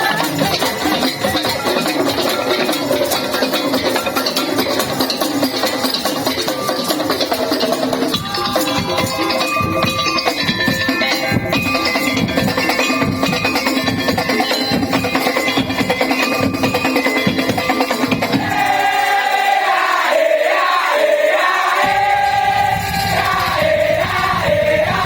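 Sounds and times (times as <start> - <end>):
voices singing: 0.0 - 5.0, 8.9 - 25.0
percussion ensemble music: 0.0 - 25.0.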